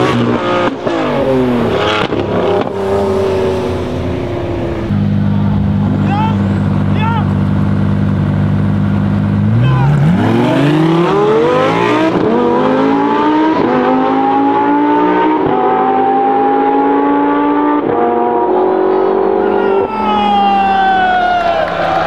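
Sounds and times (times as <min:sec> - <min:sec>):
second car accelerating: 0:00.0 - 0:22.0
sports car accelerating: 0:00.0 - 0:22.0.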